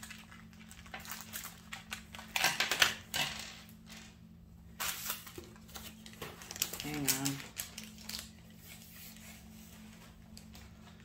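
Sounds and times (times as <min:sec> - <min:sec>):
packaging rustling: 0:00.0 - 0:03.1, 0:04.8 - 0:11.0.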